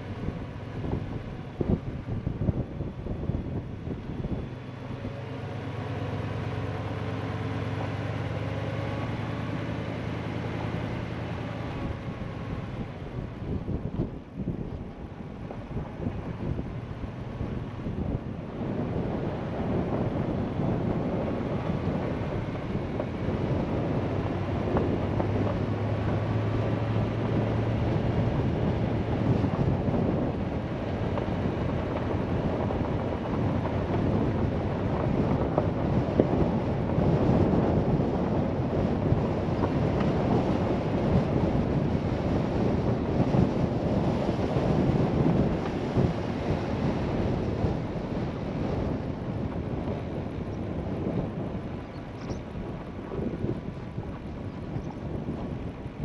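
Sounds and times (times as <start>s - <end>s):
tyres on gravel road: 0.0s - 56.0s
wind buffeting microphone: 0.0s - 56.0s.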